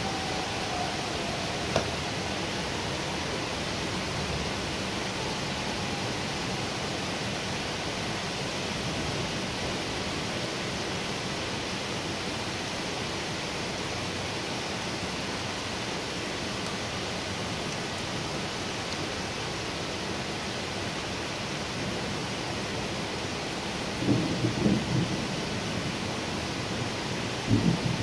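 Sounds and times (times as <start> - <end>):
heavy rain pouring on trees: 0.0 - 28.0.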